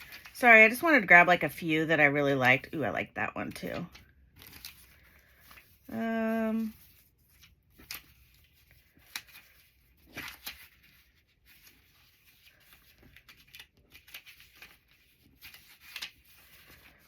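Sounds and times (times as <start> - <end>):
paper rustling: 0.0 - 1.3, 3.5 - 17.0.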